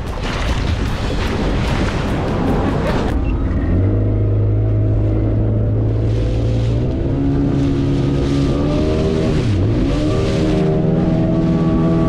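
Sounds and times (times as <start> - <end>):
speedboat engine running: 0.0 - 12.0.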